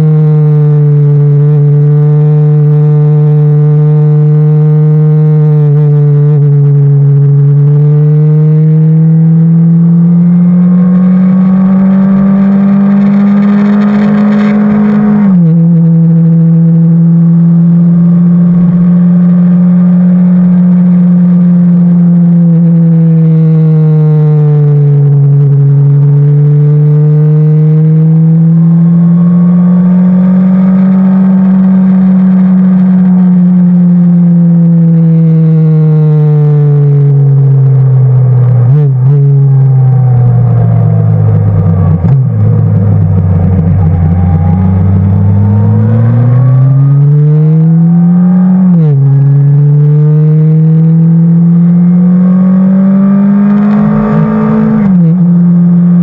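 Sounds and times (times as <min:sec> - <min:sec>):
motorcycle engine revving hard: 0:00.0 - 0:56.0.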